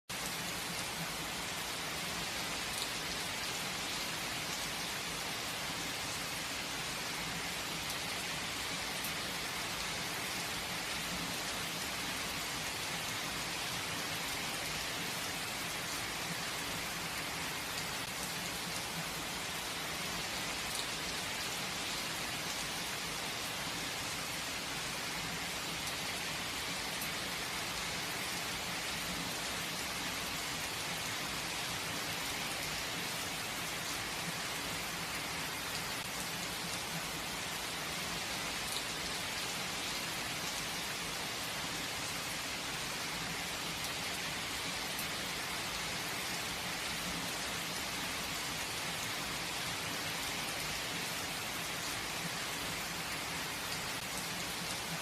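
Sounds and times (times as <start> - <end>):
steady rain falling: 0.1 - 55.0.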